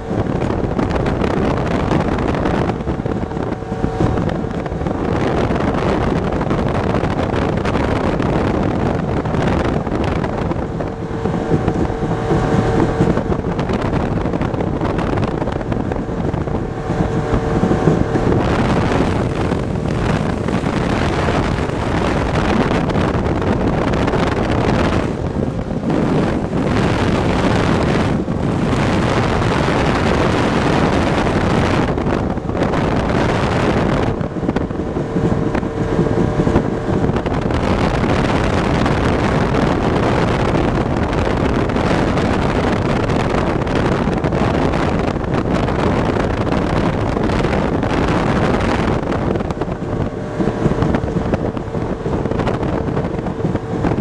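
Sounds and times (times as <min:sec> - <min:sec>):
speedboat engine and hull noise: 0:00.0 - 0:54.0
wind buffeting microphone: 0:00.0 - 0:54.0.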